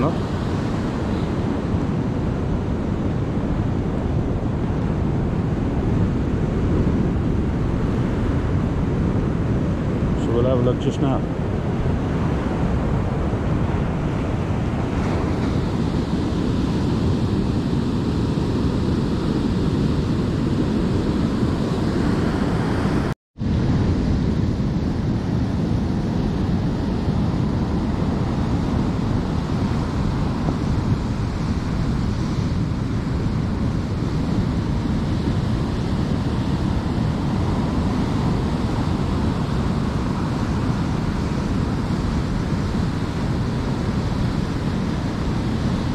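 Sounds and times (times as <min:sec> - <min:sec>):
surf washing over rocks: 0:00.0 - 0:45.9
wind buffeting microphone: 0:00.0 - 0:45.9.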